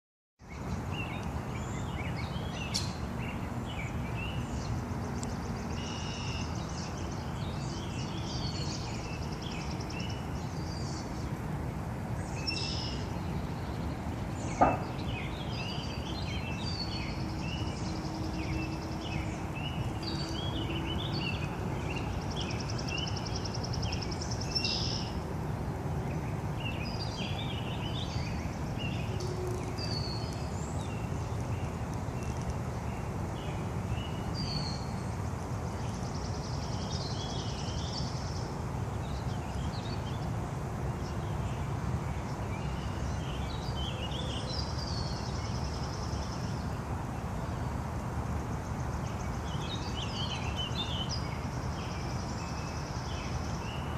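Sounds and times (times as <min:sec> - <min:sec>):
songbirds chirping: 0:00.4 - 0:53.9.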